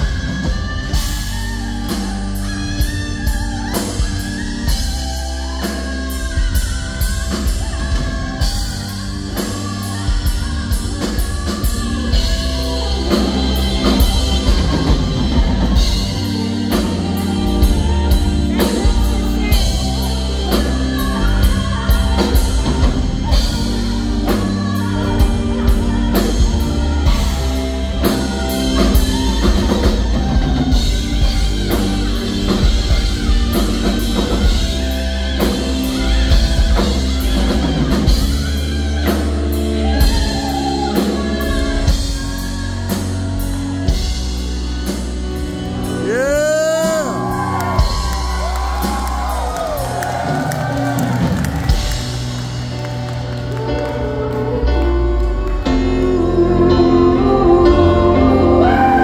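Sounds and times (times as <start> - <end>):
woman singing wordless vocal: 0.0 - 44.3, 45.8 - 49.8, 53.4 - 59.0
rock band playing slow ballad: 0.0 - 59.0.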